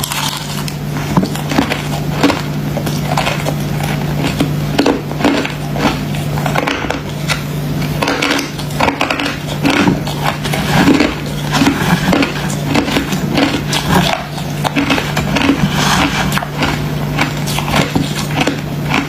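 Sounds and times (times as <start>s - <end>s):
chewing crunchy ice: 0.0s - 19.0s
steady low hum: 0.0s - 19.0s.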